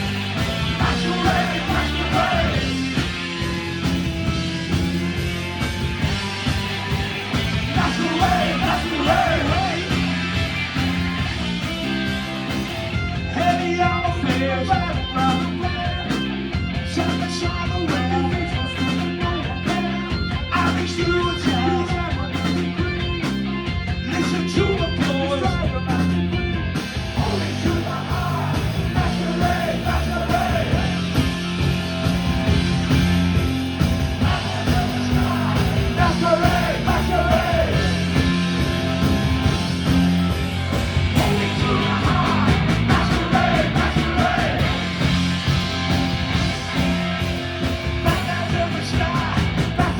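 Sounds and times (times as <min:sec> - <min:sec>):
vocals: 0:00.0 - 0:03.3, 0:07.4 - 0:10.7, 0:13.0 - 0:39.9, 0:41.1 - 0:49.9
punk rock band playing: 0:00.0 - 0:49.9.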